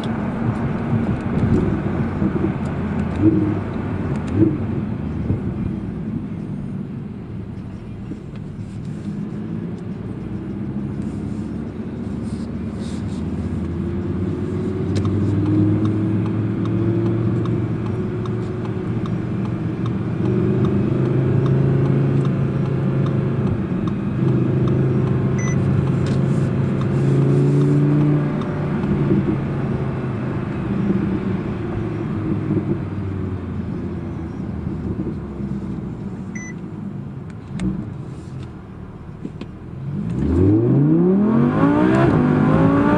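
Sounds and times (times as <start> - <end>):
car engine running: 0.0 - 40.2.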